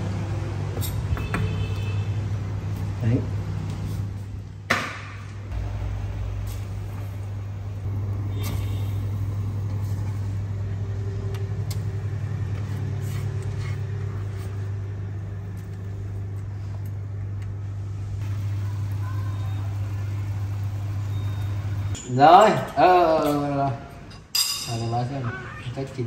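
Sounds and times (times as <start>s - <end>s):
induction cooktop hum: 1.5s - 26.0s.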